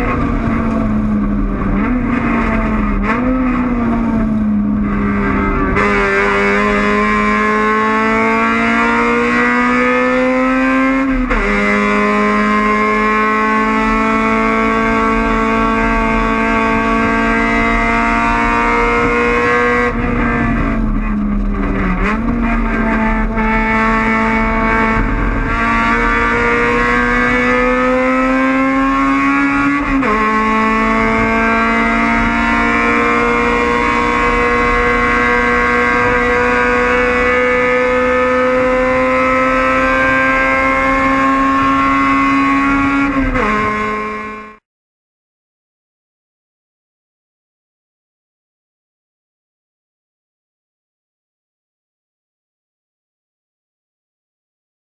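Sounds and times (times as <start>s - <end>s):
race car engine at full throttle: 0.0s - 44.6s.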